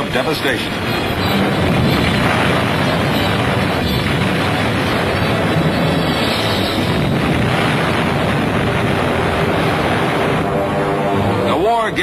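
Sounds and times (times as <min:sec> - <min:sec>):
propeller planes droning overhead: 0:00.0 - 0:12.0.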